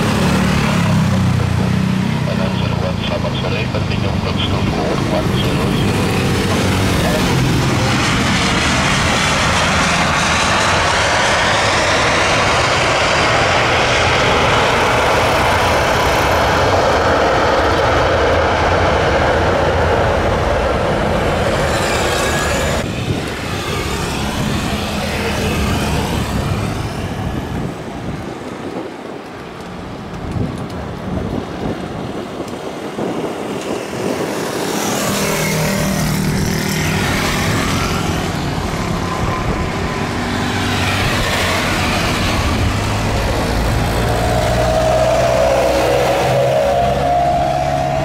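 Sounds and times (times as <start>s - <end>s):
jet engines roaring at takeoff: 0.0s - 48.0s
landing jet aircraft: 0.0s - 48.0s.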